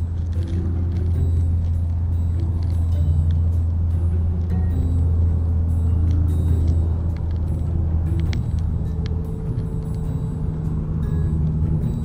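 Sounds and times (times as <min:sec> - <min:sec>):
utility vehicle engine drone: 0:00.0 - 0:12.0.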